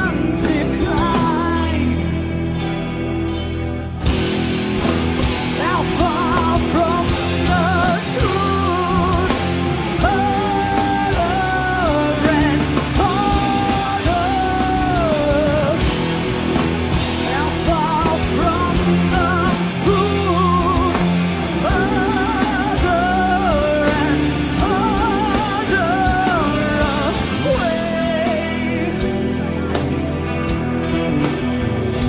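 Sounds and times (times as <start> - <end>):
metal band playing: 0.0 - 32.0.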